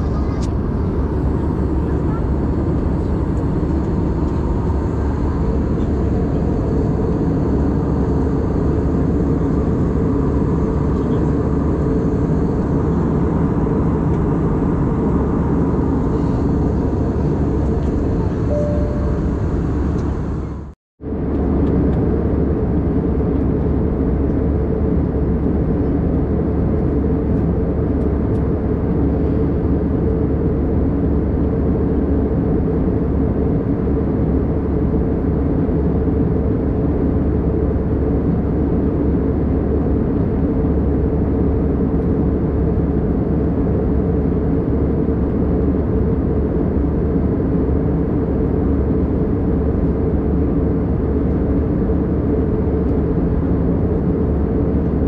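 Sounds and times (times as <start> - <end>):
airplane cabin drone: 0.0 - 55.0.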